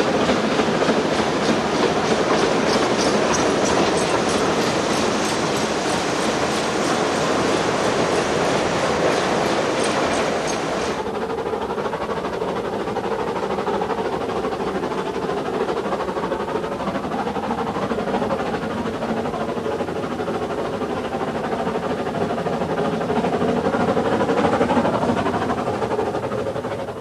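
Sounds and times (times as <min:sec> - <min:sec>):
steam rack train running: 0:00.0 - 0:27.0.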